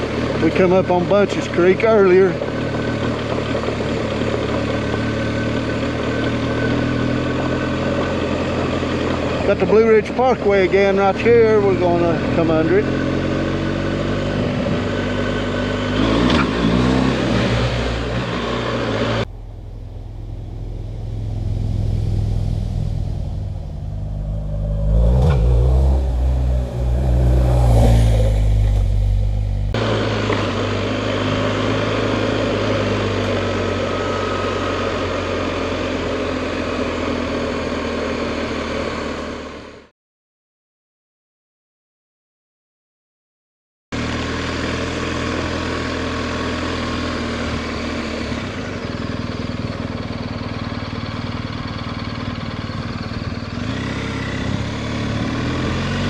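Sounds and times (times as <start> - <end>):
motorcycle engine running: 0.0 - 39.9, 44.0 - 56.0
road noise: 0.0 - 39.9, 44.0 - 56.0.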